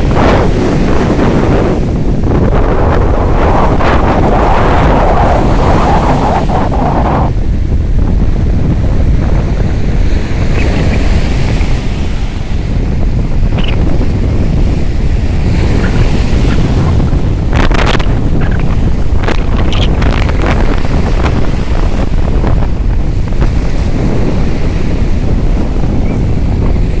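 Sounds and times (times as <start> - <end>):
surf breaking on shore: 0.0 - 27.0
wind buffeting microphone: 0.0 - 27.0.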